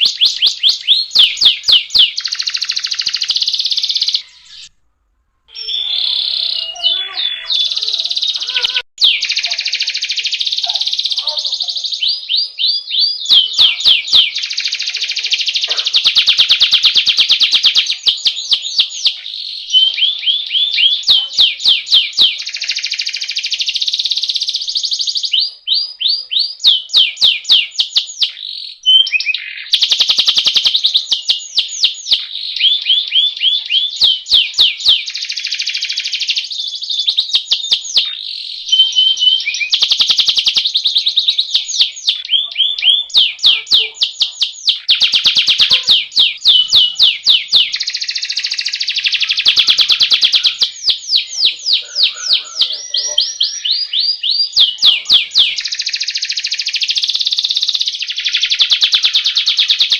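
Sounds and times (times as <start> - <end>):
canary singing trills: 0.0 - 4.8, 5.5 - 59.9.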